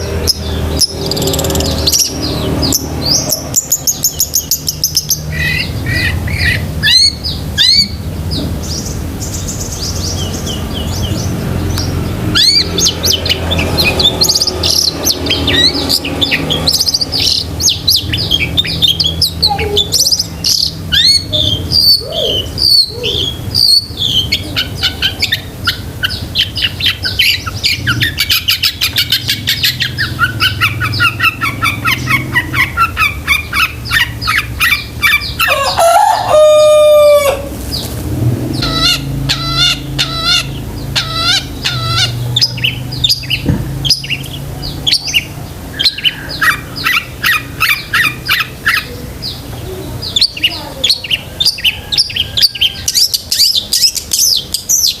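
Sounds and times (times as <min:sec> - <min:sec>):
bird singing varied chirps: 0:00.0 - 0:55.0.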